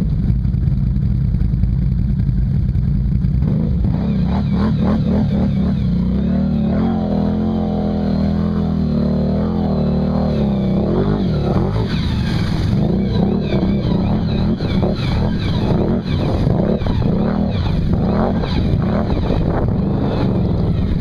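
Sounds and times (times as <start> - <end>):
atv engines revving: 3.2 - 21.0.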